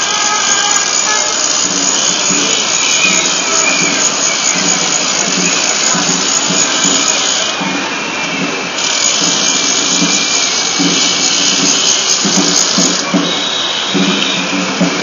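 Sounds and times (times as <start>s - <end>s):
crowd voices: 0.0s - 15.0s
steady loud hiss: 0.0s - 15.0s.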